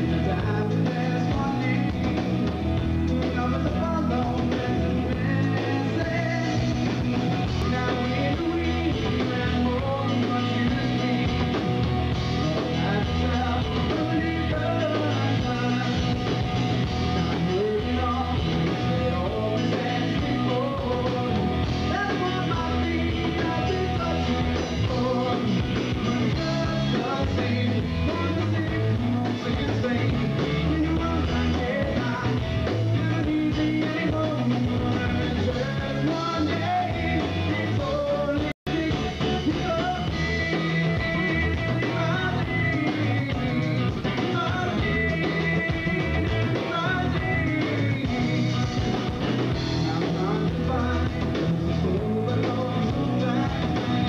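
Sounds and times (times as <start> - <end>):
drums: 0.0 - 54.0
electric guitars: 0.0 - 54.0
man singing: 0.0 - 54.0.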